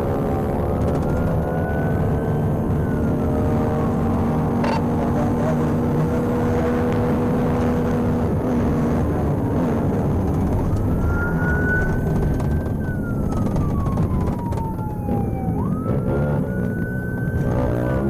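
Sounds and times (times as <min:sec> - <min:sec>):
car engine and road rumble: 0:00.0 - 0:18.0
police siren wailing: 0:00.0 - 0:18.0.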